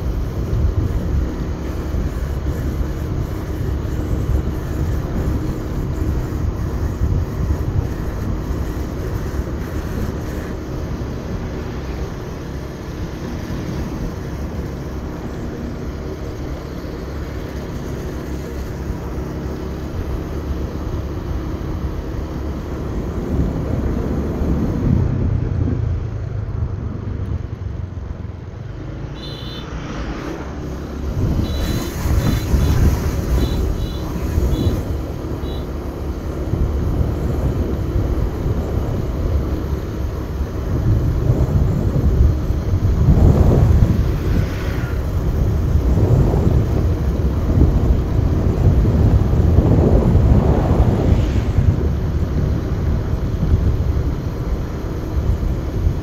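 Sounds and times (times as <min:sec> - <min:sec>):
motorbike engine running: 0:00.0 - 0:25.8, 0:26.6 - 0:56.0
low road rumble: 0:00.0 - 0:56.0.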